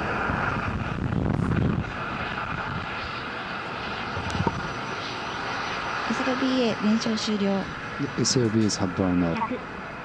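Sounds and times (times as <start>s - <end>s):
rocket engine roar: 0.0s - 10.0s.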